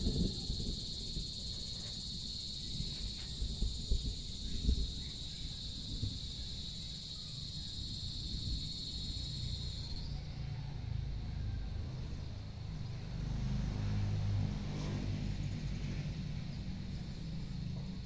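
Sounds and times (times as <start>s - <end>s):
shrill insect chorus: 0.0s - 14.9s.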